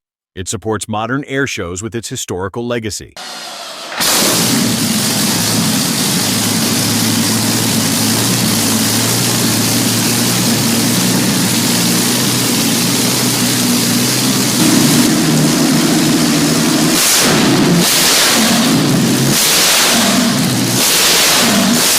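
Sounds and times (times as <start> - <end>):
aircraft engine running: 3.2 - 21.9.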